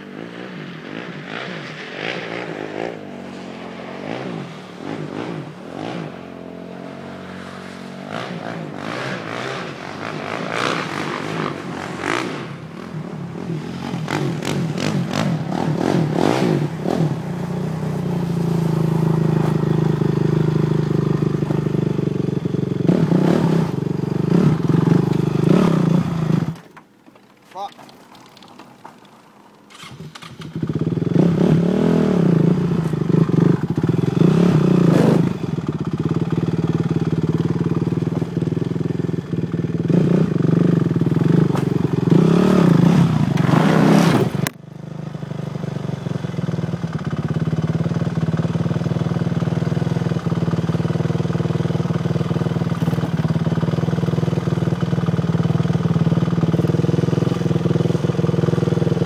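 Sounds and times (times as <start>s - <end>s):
quad engine revving: 0.0s - 26.7s, 29.7s - 59.0s.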